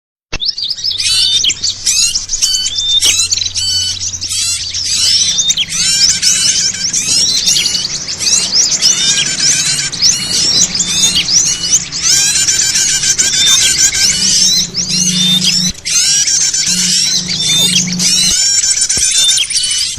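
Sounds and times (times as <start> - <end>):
songbirds chirping and twittering: 0.3 - 19.9
faint low hum: 0.8 - 19.1.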